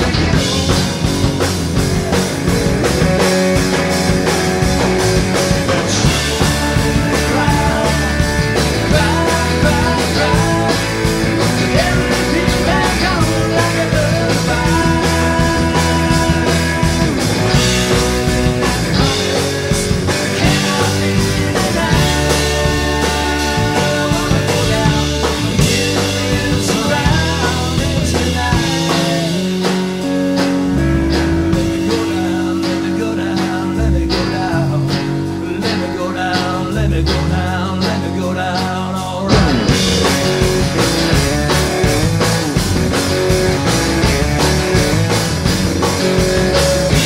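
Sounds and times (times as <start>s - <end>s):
bass guitar: 0.0s - 47.0s
drum kit: 0.0s - 47.0s
electric guitar: 0.0s - 47.0s.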